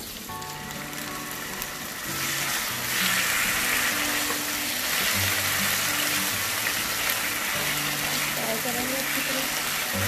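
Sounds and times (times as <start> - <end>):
chicken sizzling in hot oil: 0.0 - 10.0
soft background music: 0.0 - 10.0.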